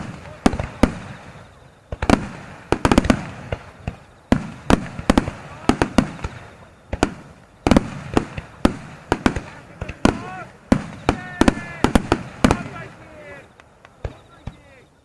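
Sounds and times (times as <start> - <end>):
firework shells bursting: 0.0 - 14.8.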